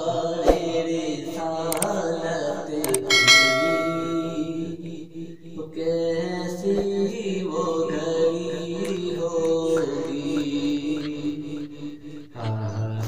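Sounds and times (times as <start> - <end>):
man chanting devotional song: 0.0 - 13.0.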